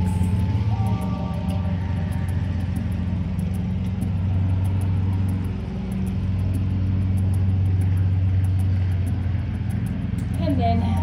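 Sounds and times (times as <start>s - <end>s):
faint fast ticking: 0.0s - 11.0s
machinery engine humming: 0.0s - 11.0s.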